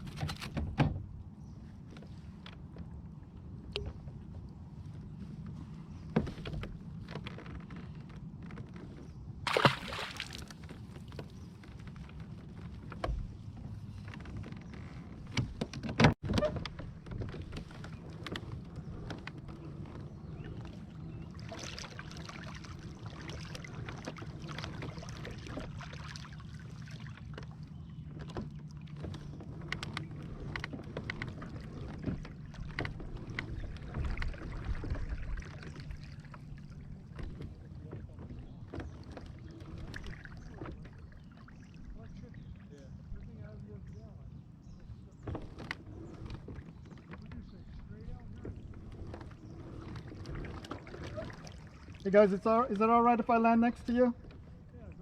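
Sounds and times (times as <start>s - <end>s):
kayak paddling: 0.0s - 55.0s.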